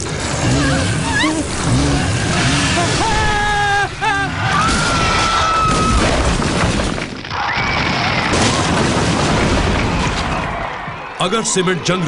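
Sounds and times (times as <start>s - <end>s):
building collapsing crash and rumble: 0.0s - 11.2s.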